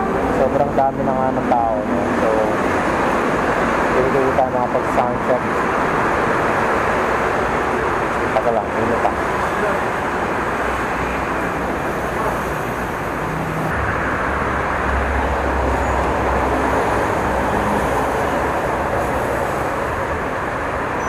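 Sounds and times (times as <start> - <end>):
surrounding traffic: 0.0 - 21.0.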